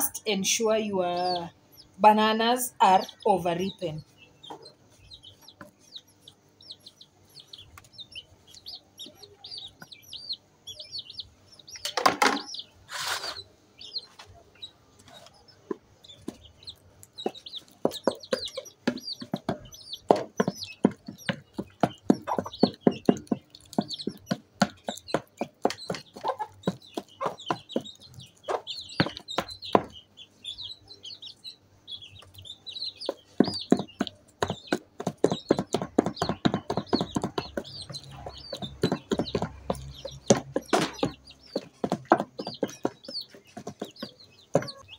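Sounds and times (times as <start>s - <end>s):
chickens clucking and chirping: 0.0s - 44.9s.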